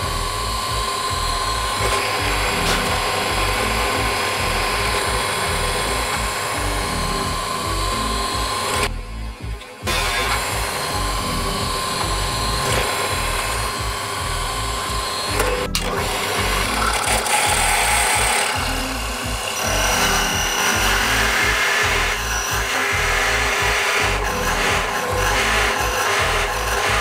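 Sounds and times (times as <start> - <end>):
drill press boring into wood: 0.0 - 8.9, 9.9 - 27.0.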